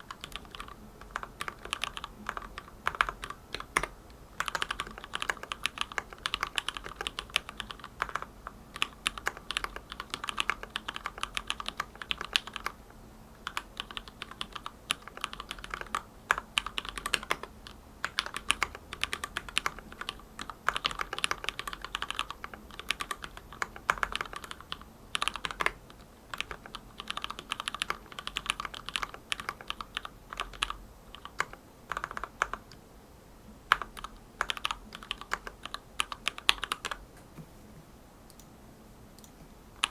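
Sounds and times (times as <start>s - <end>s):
mechanical keyboard typing: 0.0s - 12.8s, 13.4s - 32.8s, 33.7s - 37.0s.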